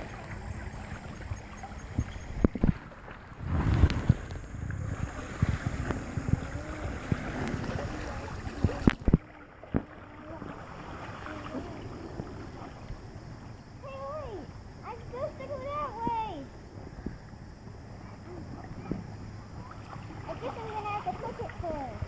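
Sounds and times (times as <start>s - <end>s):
creek water rippling: 0.0s - 22.0s.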